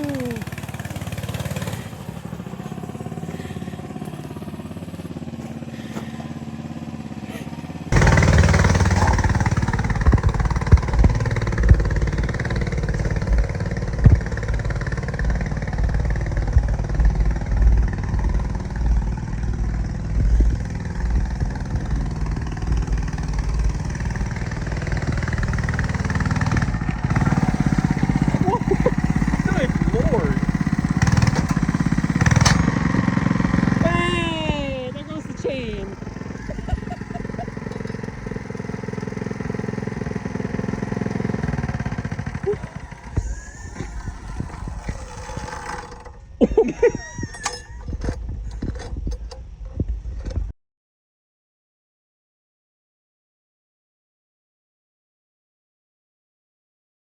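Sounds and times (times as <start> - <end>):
minibike engine running: 0.0 - 50.5.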